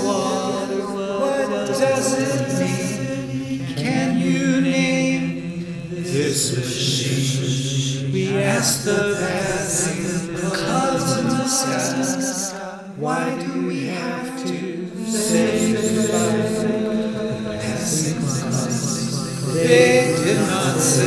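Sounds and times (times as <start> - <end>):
chant-like singing: 0.0 - 21.0.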